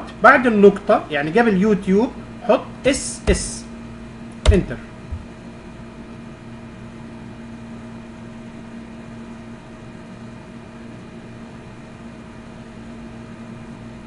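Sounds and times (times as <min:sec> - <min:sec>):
background hum with hiss: 0:00.0 - 0:14.0.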